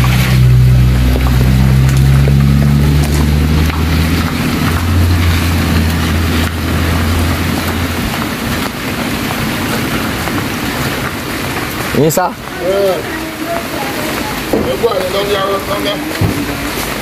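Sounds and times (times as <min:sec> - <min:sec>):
minivan engine humming: 0:00.0 - 0:17.0.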